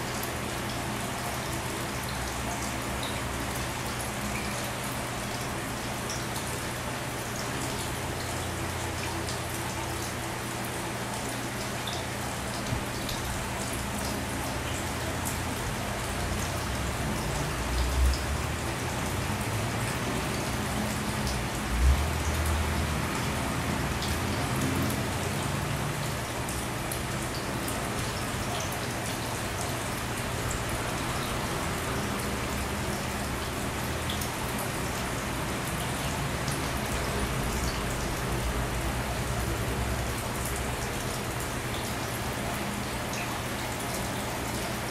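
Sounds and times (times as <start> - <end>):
aquarium water splashing and trickling: 0.0 - 44.9.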